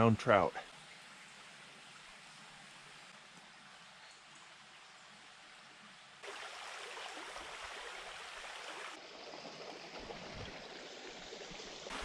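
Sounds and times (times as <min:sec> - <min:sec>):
creek babbling over stones: 0:00.0 - 0:12.0.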